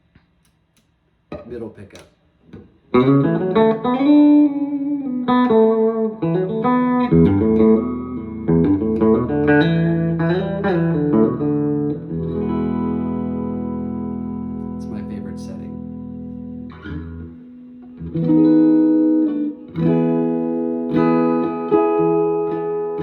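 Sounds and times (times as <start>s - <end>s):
electric guitar with string bends: 1.3s - 23.0s
ringing guitar chord: 3.0s - 23.0s.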